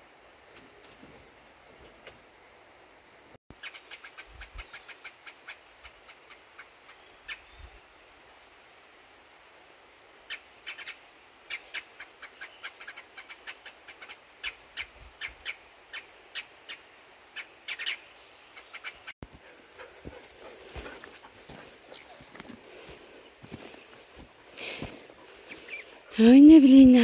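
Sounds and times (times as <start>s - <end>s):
faint outdoor hiss: 0.0s - 27.0s.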